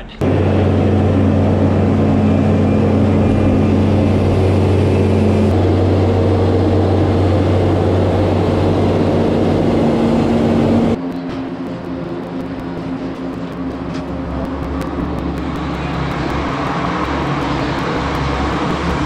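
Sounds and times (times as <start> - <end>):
diesel engine running: 0.1 - 19.0.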